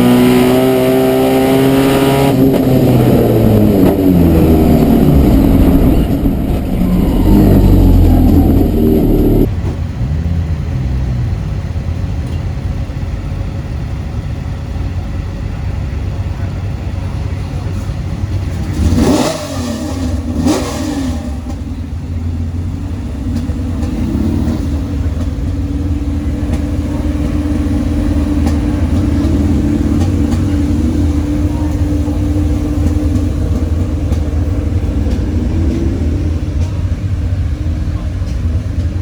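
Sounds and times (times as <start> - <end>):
car engines running: 0.0 - 39.0.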